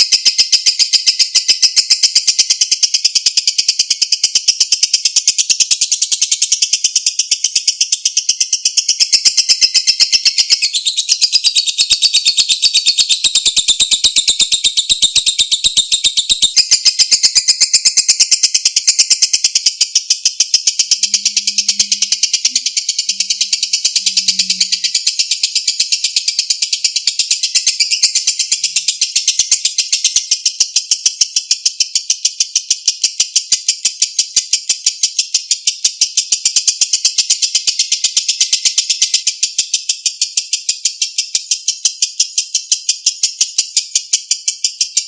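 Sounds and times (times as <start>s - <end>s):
lovebird chattering trill: 0.0s - 45.0s.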